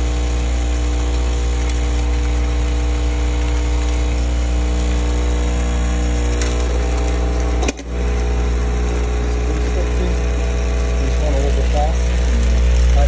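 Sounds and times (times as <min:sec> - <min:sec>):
machine motor humming and whining: 0:00.0 - 0:13.0.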